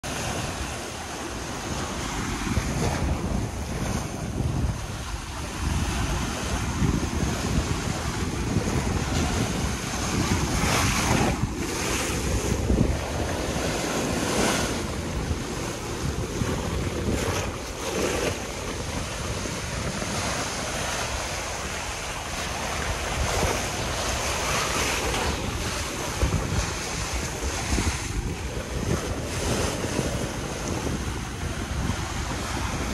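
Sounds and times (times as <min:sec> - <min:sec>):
wind buffeting microphone: 0:00.0 - 0:32.9
small waves washing over rocks: 0:00.1 - 0:32.9.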